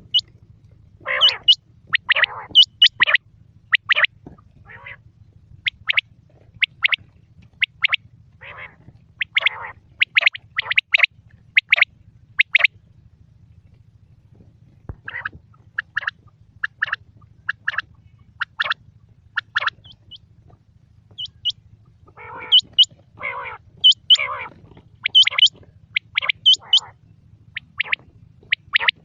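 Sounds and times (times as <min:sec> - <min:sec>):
quail calling: 0:00.0 - 0:00.3, 0:01.0 - 0:05.0, 0:05.6 - 0:12.7, 0:14.9 - 0:29.0
faint low hum: 0:00.0 - 0:29.0.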